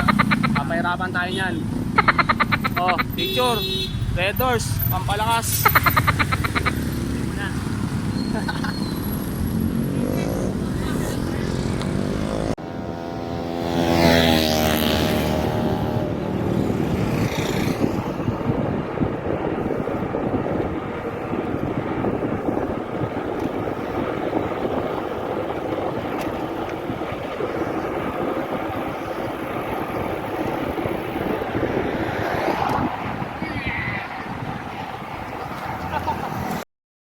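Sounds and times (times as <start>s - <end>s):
wind buffeting microphone: 0.0s - 36.6s
road noise rumbling: 0.0s - 36.7s.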